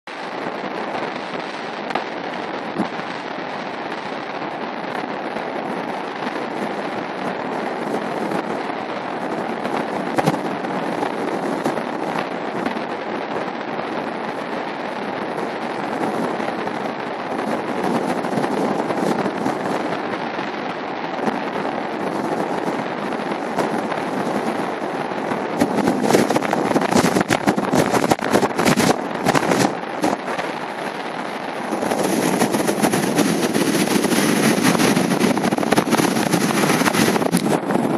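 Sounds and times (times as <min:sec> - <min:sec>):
sharp crackling pops: 0:00.1 - 0:37.9.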